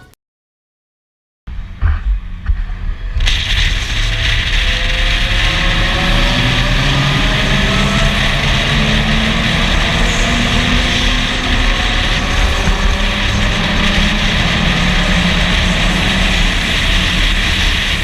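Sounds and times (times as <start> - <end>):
car engine: 1.5 - 18.0
road noise: 1.5 - 18.0.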